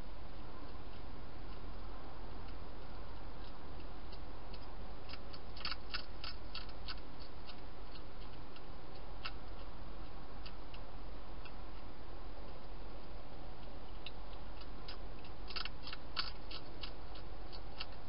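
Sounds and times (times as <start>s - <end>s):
low hum and hiss: 0.0s - 18.0s
hedgehog crunching dry food: 0.6s - 11.9s, 12.5s - 18.0s.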